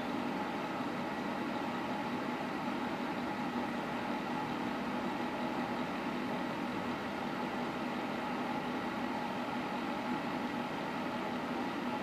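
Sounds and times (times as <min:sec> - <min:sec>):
heater fan whirring: 0:00.0 - 0:12.0.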